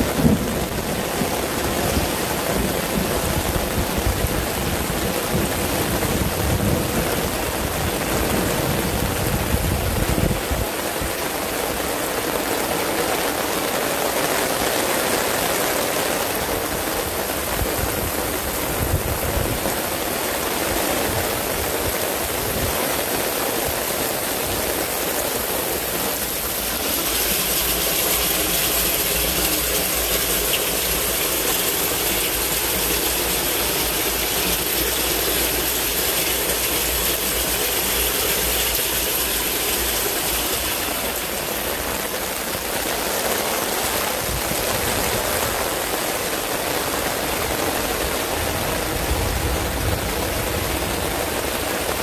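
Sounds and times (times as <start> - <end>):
heavy rain: 0.0 - 52.0
water pouring through a drain: 0.0 - 52.0.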